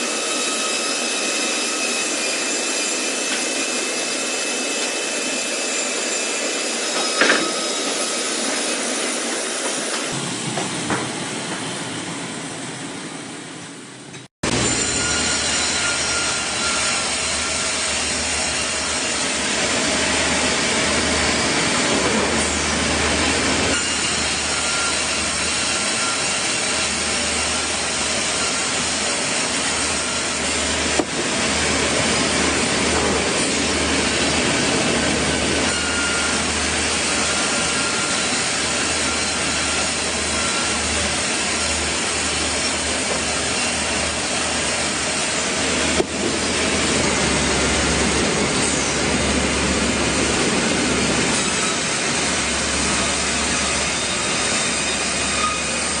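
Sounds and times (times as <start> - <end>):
sawmill saw cutting log: 0.0 - 10.2, 14.4 - 56.0
low hum of mill machinery: 0.0 - 56.0.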